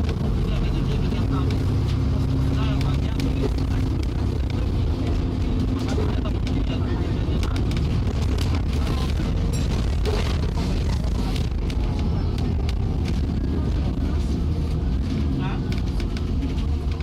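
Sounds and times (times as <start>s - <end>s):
bus body rattling and knocking: 0.0s - 17.0s
bus engine drone: 0.0s - 17.0s.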